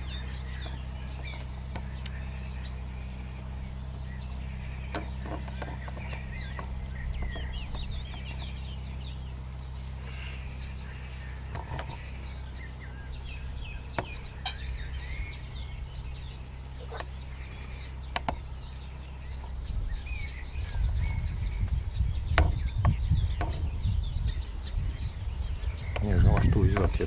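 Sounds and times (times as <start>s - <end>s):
low rumble on microphone: 0.0s - 27.0s
small bird chirps: 0.0s - 27.0s
steady low hum: 0.0s - 27.0s.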